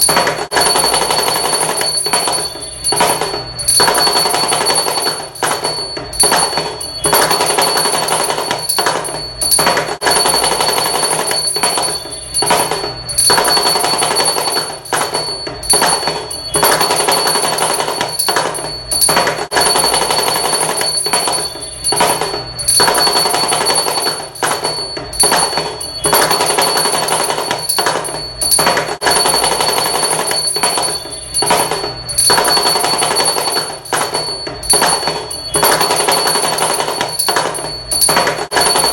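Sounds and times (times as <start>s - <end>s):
high ringing tone: 0.0s - 38.9s.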